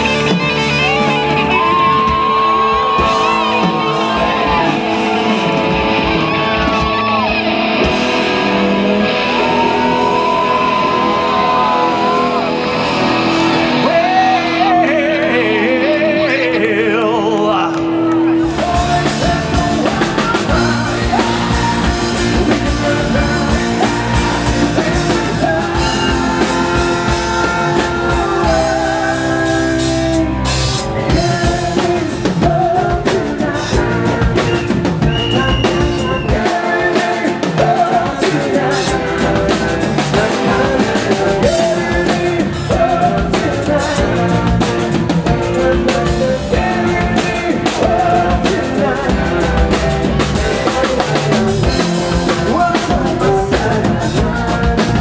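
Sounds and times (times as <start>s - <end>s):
drum kit: 0.0s - 55.0s
electric guitar: 0.0s - 55.0s
keyboards: 0.0s - 55.0s
person singing: 0.0s - 55.0s.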